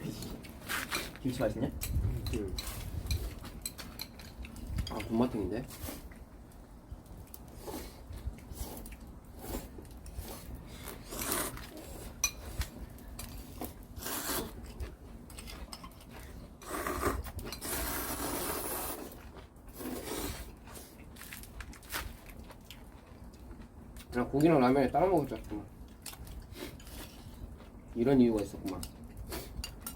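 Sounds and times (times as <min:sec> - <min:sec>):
noisy eating: 0:00.0 - 0:29.9.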